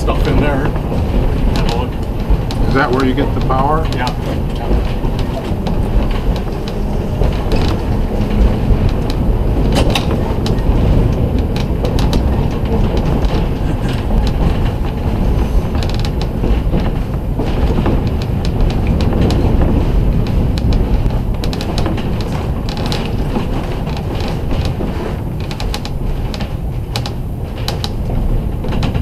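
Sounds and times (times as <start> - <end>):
streetcar creaking and clicking: 0.0 - 29.0
streetcar wheels rumbling on rails: 0.0 - 29.0.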